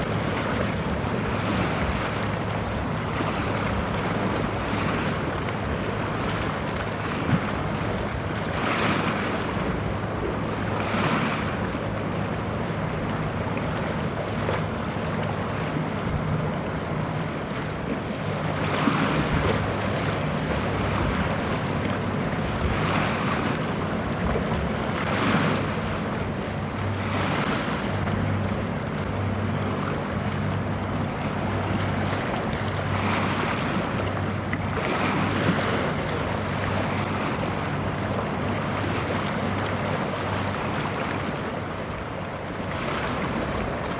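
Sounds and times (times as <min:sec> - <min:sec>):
ship engine droning: 0:00.0 - 0:43.9
water washing and splashing: 0:00.0 - 0:43.9
wind buffeting microphone: 0:00.0 - 0:43.9.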